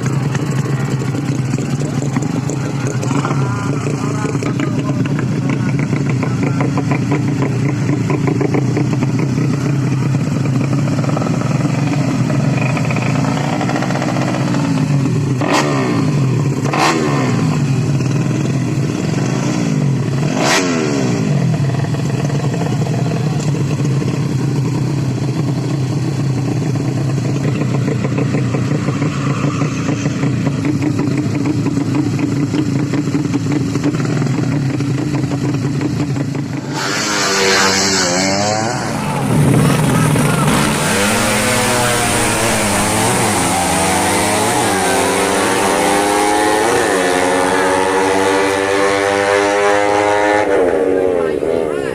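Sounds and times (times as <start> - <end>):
racing motorcycles passing: 0.0 - 51.9.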